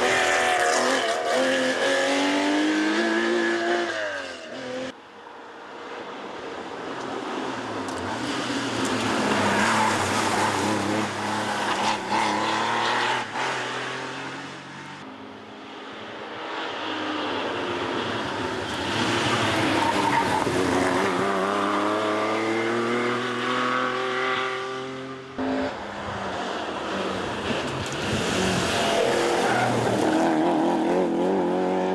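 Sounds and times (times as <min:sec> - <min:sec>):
car accelerating and shifting up: 0:00.0 - 0:05.0, 0:05.9 - 0:31.9.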